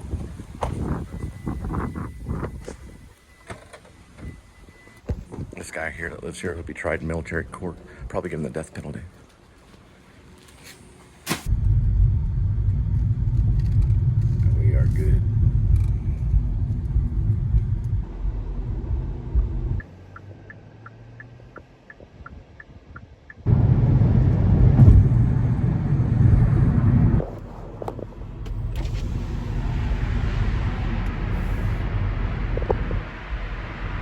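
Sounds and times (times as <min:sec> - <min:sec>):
car road rumble and engine: 0:00.0 - 0:34.0.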